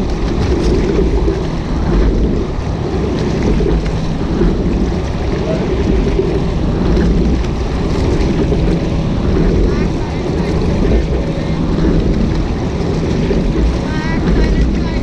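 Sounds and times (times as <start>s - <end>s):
water rushing along a hull: 0.0s - 15.0s
wind noise on microphone: 0.0s - 15.0s.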